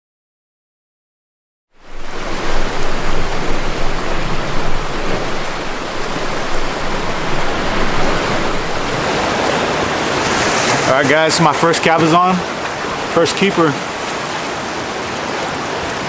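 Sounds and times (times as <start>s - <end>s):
ocean surf washing over rocks: 1.8s - 16.0s.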